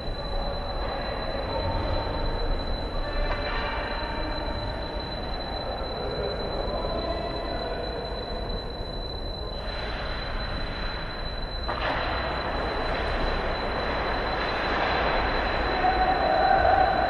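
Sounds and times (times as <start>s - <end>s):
held tone: 0.0s - 17.0s
thin high whine: 0.0s - 17.0s.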